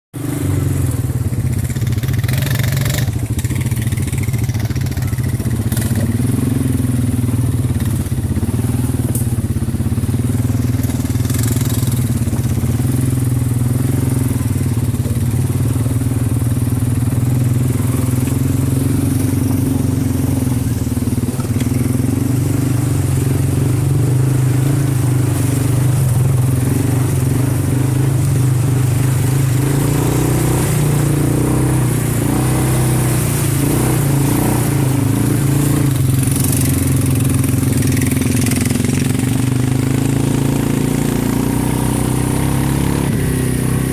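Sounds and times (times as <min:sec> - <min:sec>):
vehicle engine running: 0:00.2 - 0:43.9.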